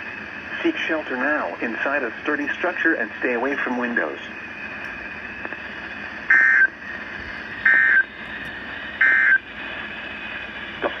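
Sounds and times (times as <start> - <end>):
radio hiss: 0.1 - 11.0.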